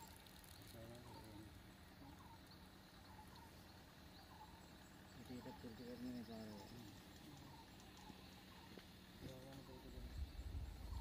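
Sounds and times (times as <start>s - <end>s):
faint outdoor ambience: 0.0s - 11.0s
short chirping bird calls: 0.0s - 11.0s.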